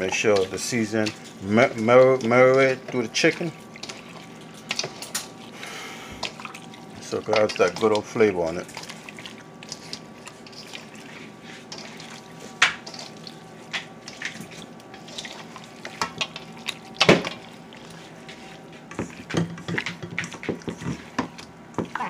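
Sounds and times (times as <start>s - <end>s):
faint steady hum: 0.0s - 19.4s.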